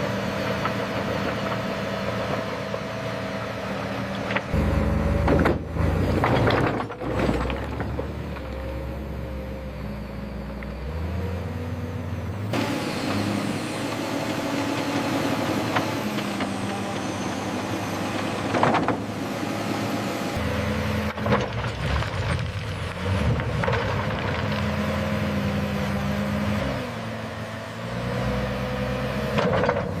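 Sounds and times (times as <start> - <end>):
heavy machinery diesel engines: 0.0 - 30.0.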